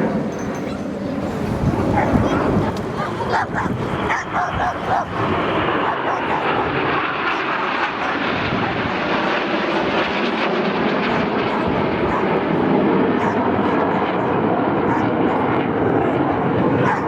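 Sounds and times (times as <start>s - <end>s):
jets flying: 0.0s - 17.0s.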